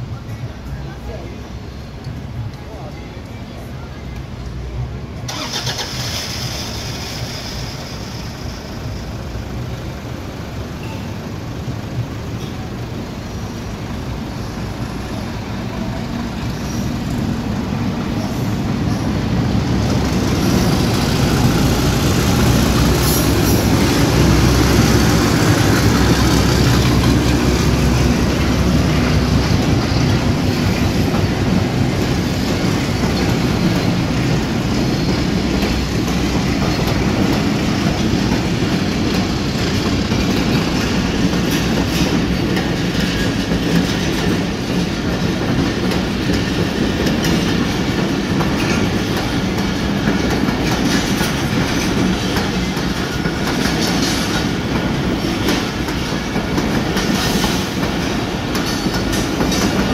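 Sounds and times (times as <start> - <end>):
diesel locomotive rumble: 0.0 - 59.9
train coaches on rails: 0.0 - 59.9.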